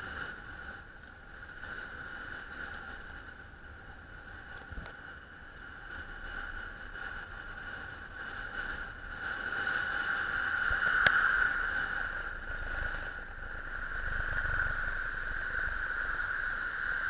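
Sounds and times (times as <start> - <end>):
bicycle tyres humming on asphalt: 0.0 - 17.0.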